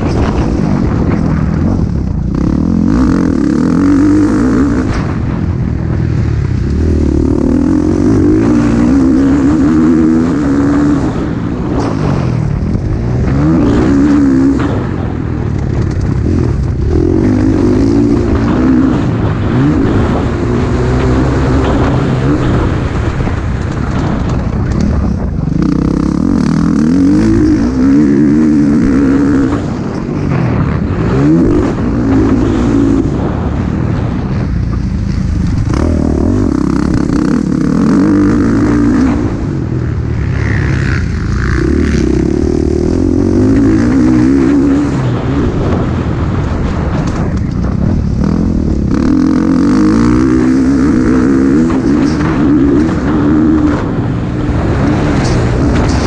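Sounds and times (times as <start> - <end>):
motocross bike engine revving: 0.0 - 56.0
wind rush: 0.0 - 56.0.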